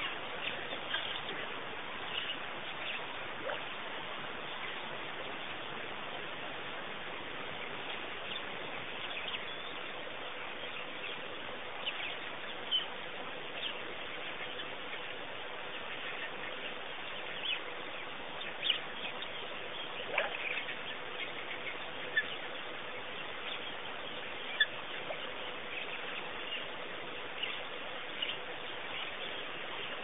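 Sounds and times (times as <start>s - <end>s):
faint hum: 0.0s - 30.0s
outdoor hiss: 0.0s - 30.0s.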